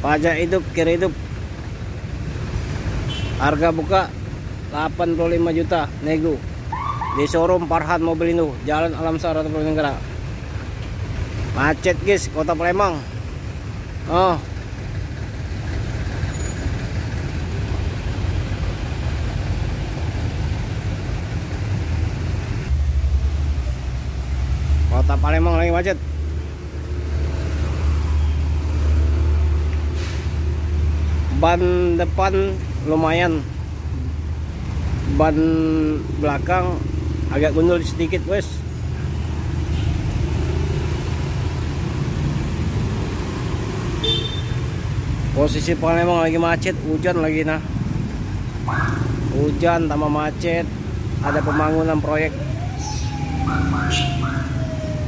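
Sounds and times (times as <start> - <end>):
car and motorcycle engines: 0.0 - 55.0
low rumble of traffic: 0.0 - 55.0.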